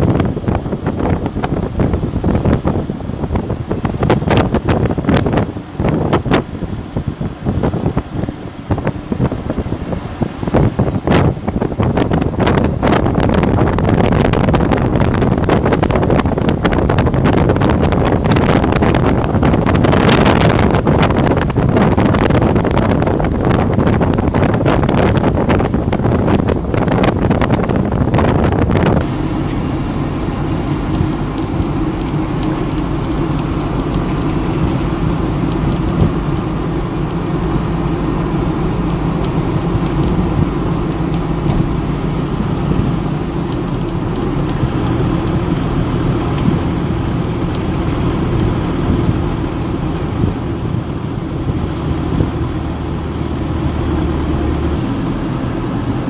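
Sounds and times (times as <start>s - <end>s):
road noise: 0.0s - 56.0s
vehicle engine cruising: 0.0s - 56.0s
wind buffeting microphone: 0.0s - 56.0s.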